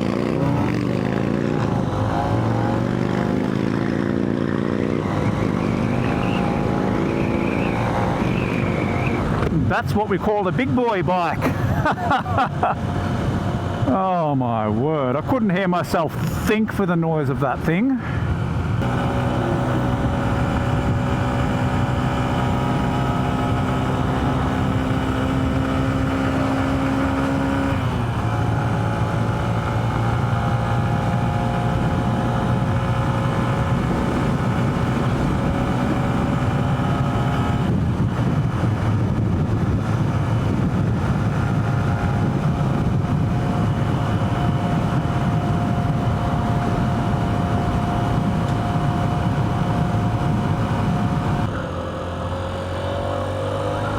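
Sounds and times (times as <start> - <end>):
motorcycle engine running: 0.0 - 9.5, 18.6 - 53.9
wind rumbling on microphone: 0.0 - 14.0, 18.0 - 53.9.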